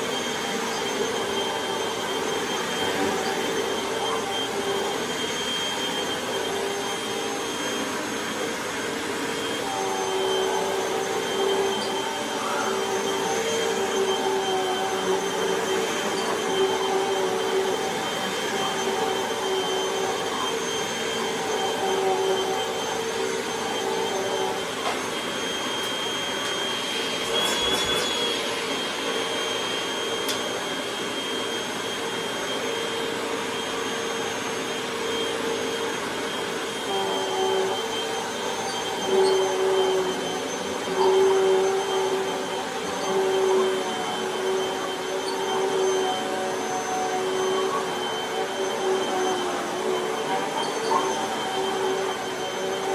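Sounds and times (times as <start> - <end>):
vacuum cleaner running on a rug: 0.0 - 52.9.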